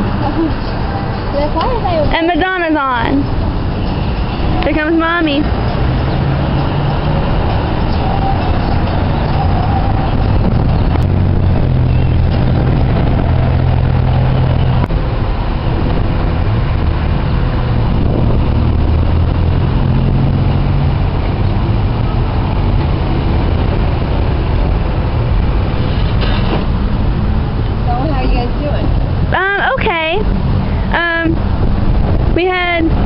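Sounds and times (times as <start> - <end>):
truck engine running: 0.0 - 32.3.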